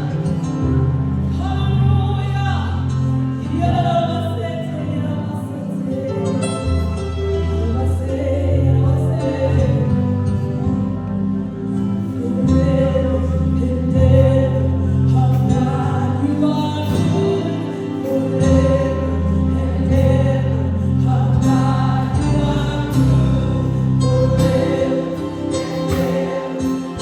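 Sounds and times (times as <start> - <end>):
bass and keyboard chords: 0.0 - 27.0
singers holding long notes: 0.0 - 27.0.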